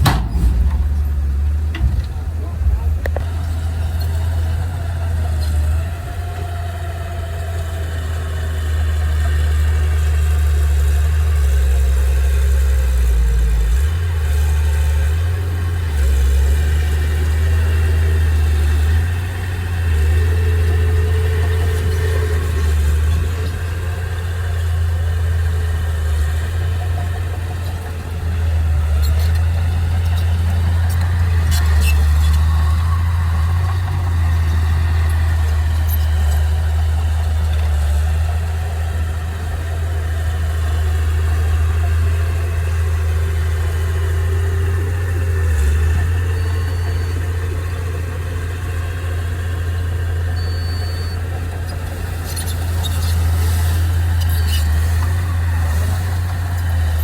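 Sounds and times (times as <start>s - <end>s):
heavy machinery engine rumbling: 0.0s - 57.0s.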